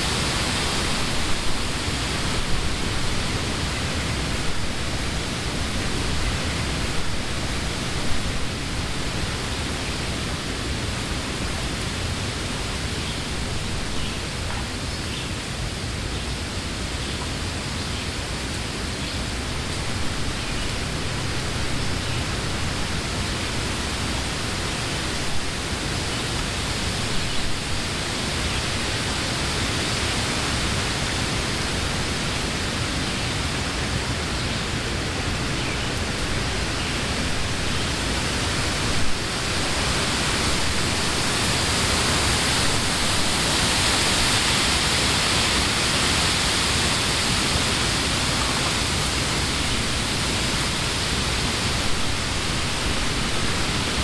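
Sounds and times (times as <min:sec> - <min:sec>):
wind rustling leaves: 0:00.0 - 0:54.0.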